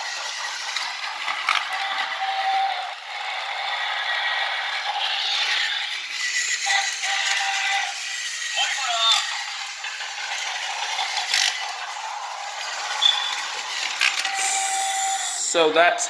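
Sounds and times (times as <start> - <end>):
plastic toy train rattling: 0.0 - 15.7.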